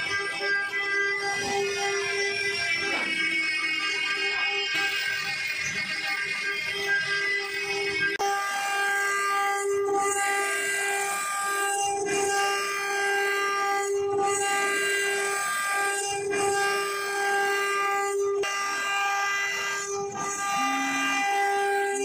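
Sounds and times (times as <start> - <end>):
router spindle high-pitched whine: 0.0 - 22.0.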